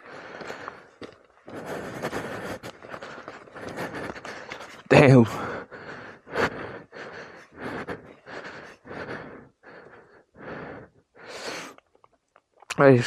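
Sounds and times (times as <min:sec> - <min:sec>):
person panting: 0:00.0 - 0:11.8.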